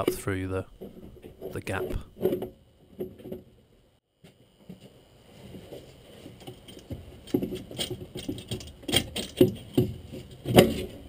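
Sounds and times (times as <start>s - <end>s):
metal clunks scrapes and rattles: 0.0s - 3.7s, 4.7s - 11.0s.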